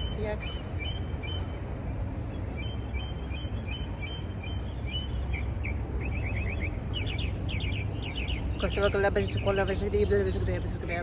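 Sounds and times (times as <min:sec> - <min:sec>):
songbirds chirping: 0:00.0 - 0:11.0
steady low rumble: 0:00.0 - 0:11.0.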